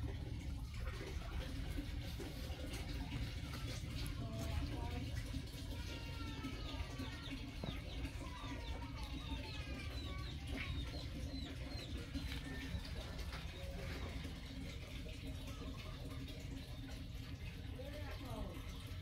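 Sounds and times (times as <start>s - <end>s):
birds chirping: 0.4s - 19.0s.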